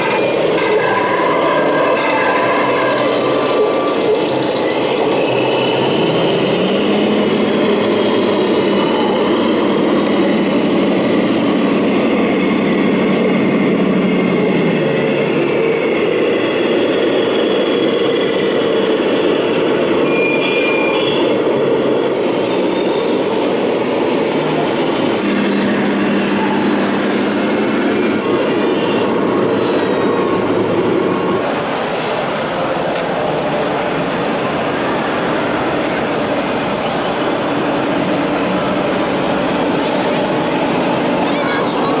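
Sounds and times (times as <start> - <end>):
dense background noise: 0.0 - 42.0.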